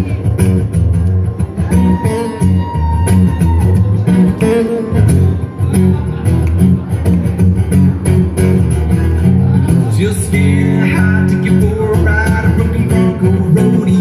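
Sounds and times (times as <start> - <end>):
country rock band music: 0.0 - 14.0.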